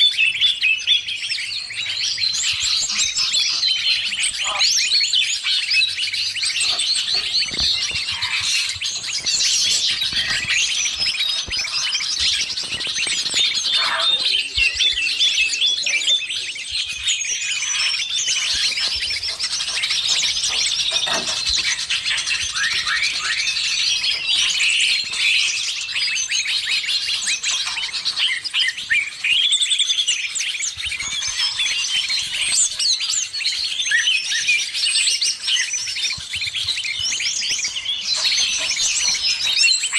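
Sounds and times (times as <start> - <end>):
small birds chirping and trilling: 0.0 - 39.9
songbird singing: 0.0 - 39.9.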